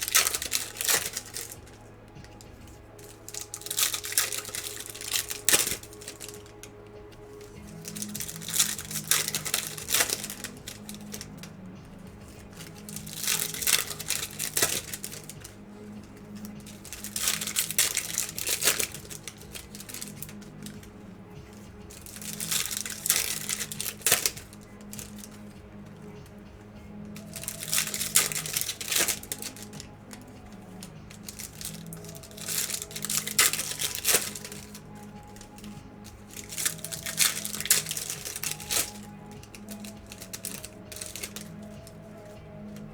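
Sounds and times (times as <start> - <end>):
background music: 0.0 - 42.9
foil wrappers crinkling and tearing: 0.0 - 42.9.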